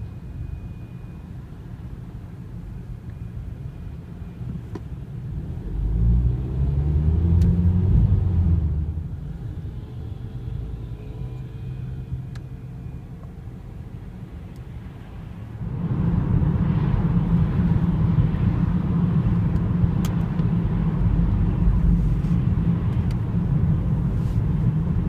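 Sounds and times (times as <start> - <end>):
road and tyre rumble: 0.0 - 25.0.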